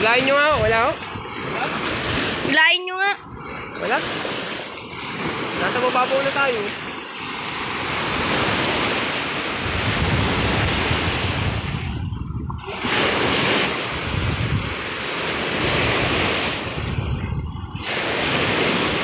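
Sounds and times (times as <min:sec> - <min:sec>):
lake waves breaking: 0:00.0 - 0:19.0
wind buffeting microphone: 0:00.0 - 0:19.0.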